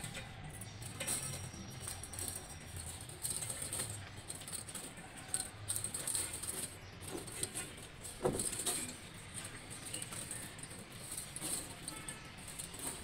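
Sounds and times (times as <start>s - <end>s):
razor wire jangling and rattling: 0.0s - 13.0s.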